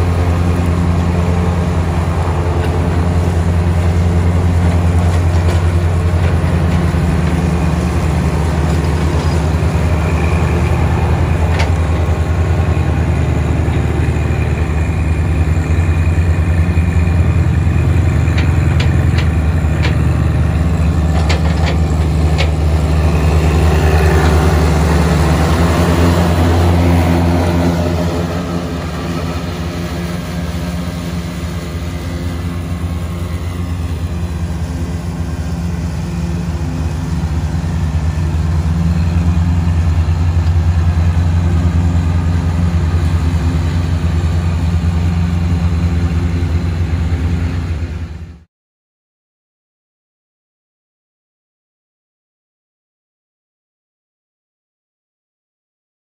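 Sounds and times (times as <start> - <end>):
mower cutting tall grass: 0.0 - 48.4
tractor diesel engine running: 0.0 - 48.5.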